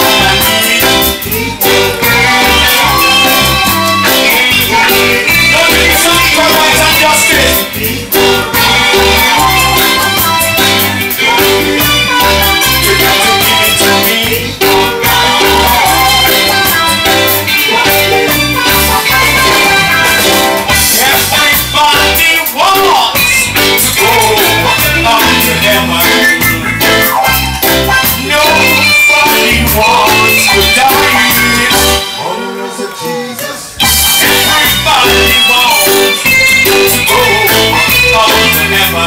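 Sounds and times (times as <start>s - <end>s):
live reggae band playing: 0.0s - 39.0s.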